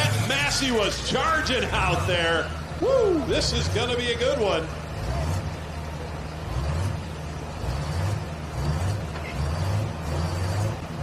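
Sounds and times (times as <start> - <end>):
tractor engine running unevenly: 0.0 - 11.0.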